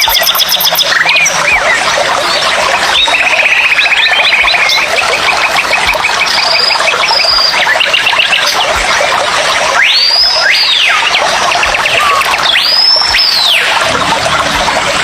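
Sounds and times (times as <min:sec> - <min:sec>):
loud whistled bird calls: 0:00.0 - 0:08.7, 0:09.7 - 0:13.9
chorus of chirping birds: 0:00.0 - 0:15.0.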